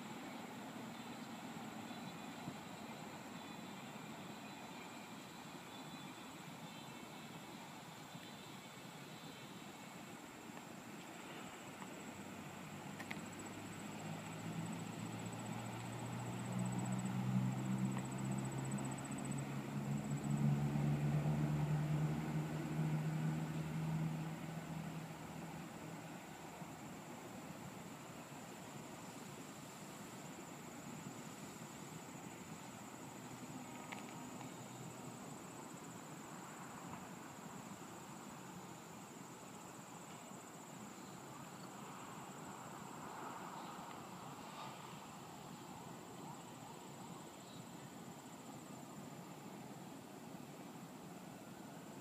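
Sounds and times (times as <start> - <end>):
faint high-pitched whine: 0.0 - 52.0
insects trilling: 0.2 - 10.1, 11.3 - 26.7, 27.6 - 49.7.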